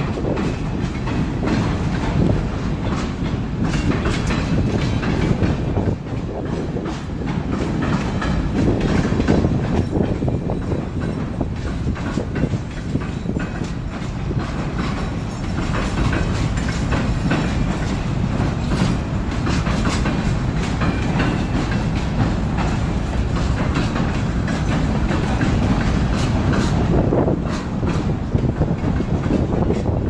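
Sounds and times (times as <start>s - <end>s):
train rumbling: 0.0s - 30.0s
wheels clicking over rail joints: 0.0s - 30.0s.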